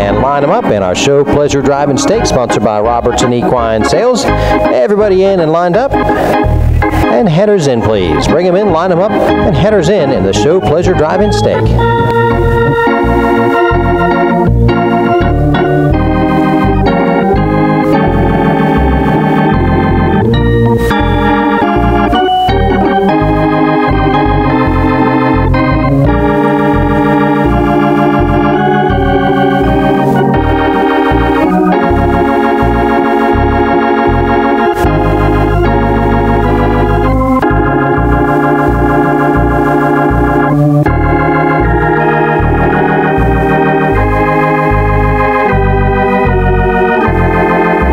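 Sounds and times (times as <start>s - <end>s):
organ music: 0.0s - 47.9s.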